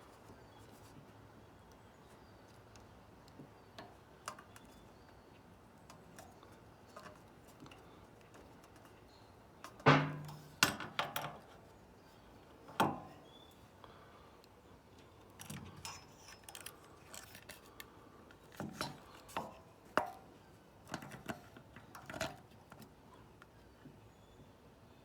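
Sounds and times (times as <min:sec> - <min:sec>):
light clicks of tools: 0:00.1 - 0:11.7, 0:12.7 - 0:24.0.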